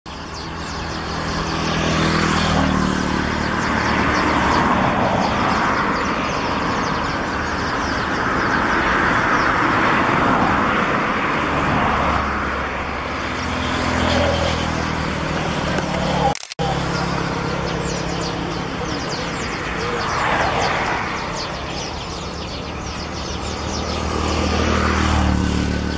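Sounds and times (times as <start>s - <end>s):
vehicle engine and road noise: 0.1s - 25.9s.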